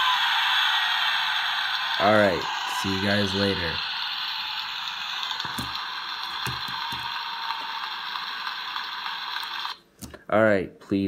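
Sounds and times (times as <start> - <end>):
steady hiss: 0.0 - 9.8.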